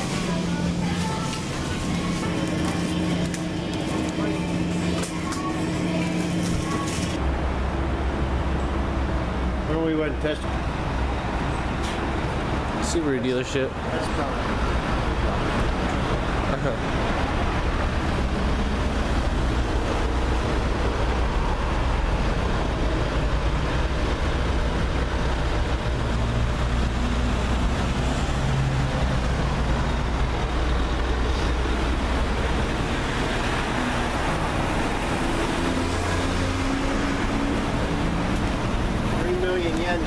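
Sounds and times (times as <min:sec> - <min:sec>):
traffic rumble: 0:00.0 - 0:40.0
vehicles passing by: 0:00.0 - 0:40.0.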